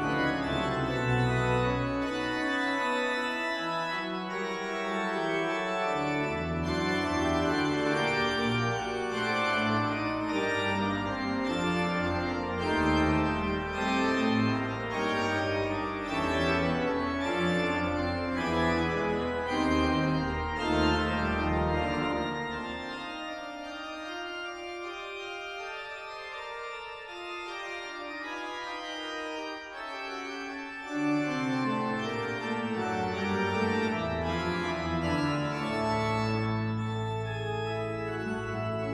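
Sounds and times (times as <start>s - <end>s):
deep organ pedal bass: 0.0s - 23.4s, 29.3s - 38.9s
pipe organ chords: 0.0s - 38.9s.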